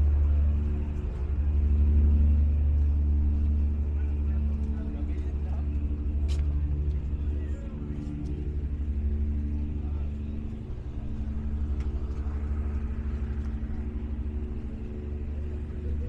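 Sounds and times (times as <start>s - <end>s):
boat diesel engine humming: 0.0s - 16.0s.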